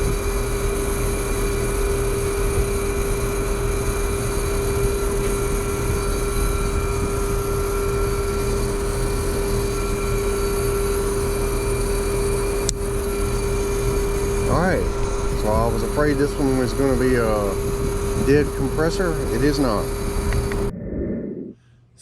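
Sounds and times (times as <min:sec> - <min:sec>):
air conditioner unit humming: 0:00.0 - 0:20.7.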